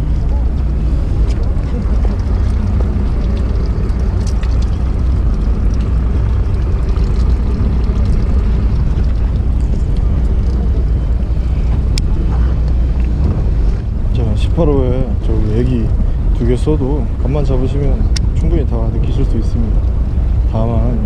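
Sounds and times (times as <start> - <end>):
boat engine humming: 0.0 - 21.0
wind buffeting microphone: 0.0 - 21.0.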